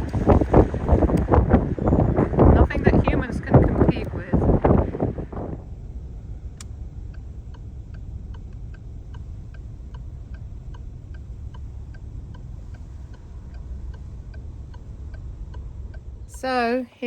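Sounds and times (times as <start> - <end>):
mechanical ticking: 0.0 - 16.7
low steady rumble: 0.0 - 17.0.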